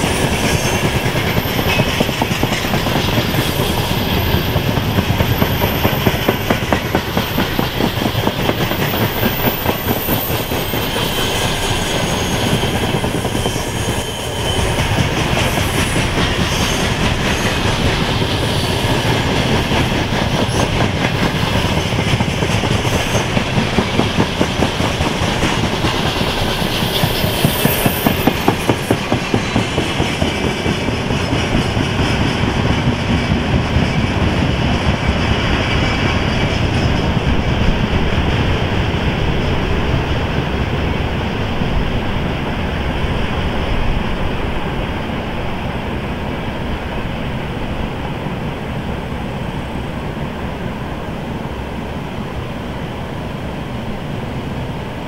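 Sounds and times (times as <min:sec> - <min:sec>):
train wheels clattering over rails: 0:00.0 - 0:47.0.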